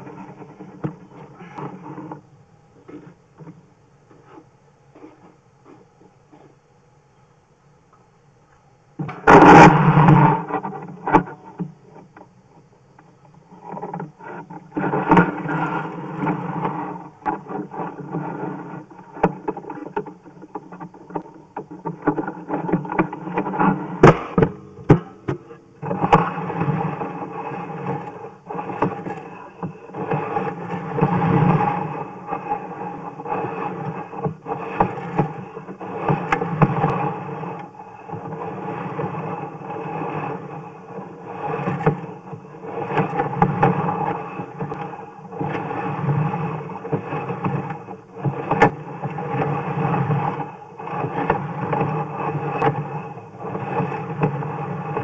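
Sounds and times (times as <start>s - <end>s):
cable scraping in drain pipe: 0.0s - 6.6s, 9.0s - 55.0s.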